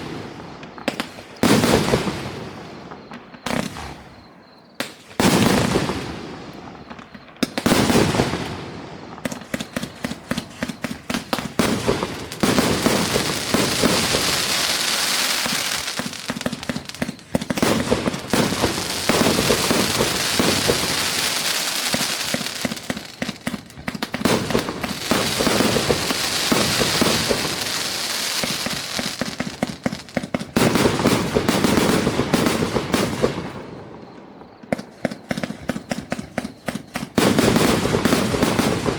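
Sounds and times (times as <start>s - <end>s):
fireworks popping and crackling: 0.0s - 4.0s, 4.8s - 34.2s, 34.8s - 38.9s
fireworks launching and bursting: 0.0s - 34.2s, 35.1s - 38.9s.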